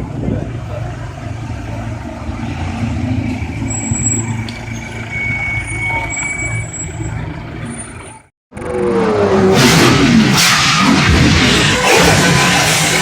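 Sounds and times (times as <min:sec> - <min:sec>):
street traffic noise: 0:00.0 - 0:13.0
vehicle engine rumble: 0:00.0 - 0:13.0.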